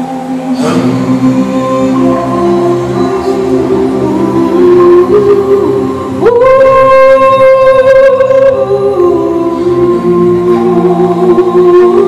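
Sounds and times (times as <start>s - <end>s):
music: 0.0s - 12.0s
voice singing held notes: 0.0s - 12.0s.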